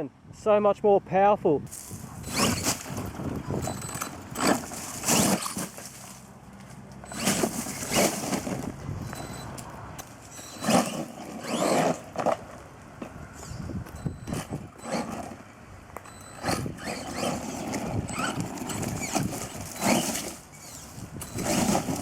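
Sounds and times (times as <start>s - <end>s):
tyres on tarmac: 0.0s - 22.0s
rc truck electric motor whine: 1.8s - 6.2s, 7.0s - 12.5s, 13.2s - 22.0s.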